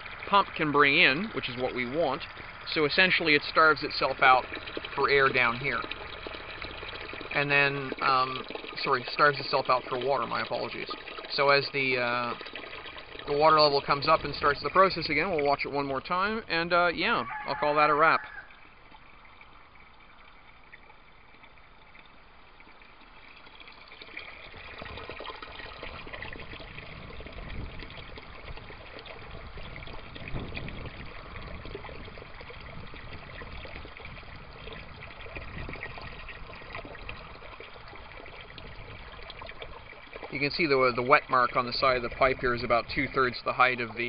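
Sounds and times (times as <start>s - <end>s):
water pouring into a tub: 0.0s - 44.0s.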